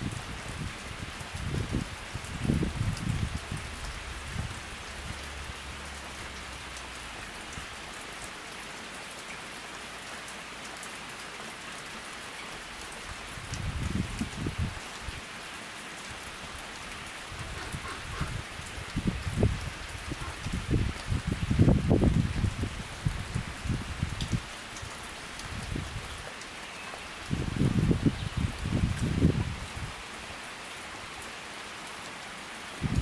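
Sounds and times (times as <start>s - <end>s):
rain falling on pond and foliage: 0.0s - 33.0s.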